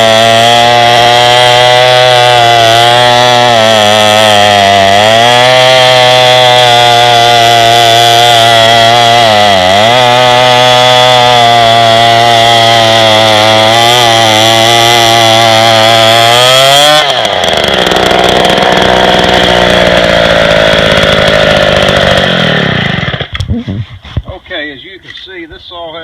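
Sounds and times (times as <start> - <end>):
chainsaw cutting log: 0.0 - 24.7.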